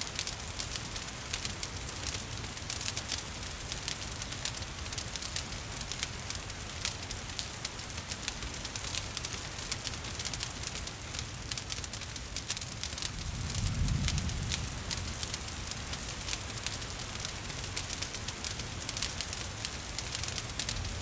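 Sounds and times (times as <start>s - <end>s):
gentle rain: 0.0s - 21.0s
wood fire crackling: 0.0s - 21.0s.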